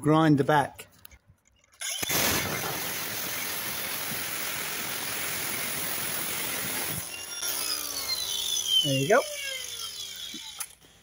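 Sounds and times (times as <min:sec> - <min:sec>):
angle grinder cutting metal bolt: 0:01.8 - 0:11.0.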